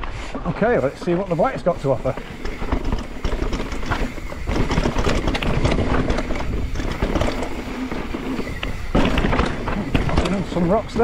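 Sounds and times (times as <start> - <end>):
bike tyres crunching over dirt: 0.2 - 11.0
bike rattling and knocking: 0.8 - 11.0.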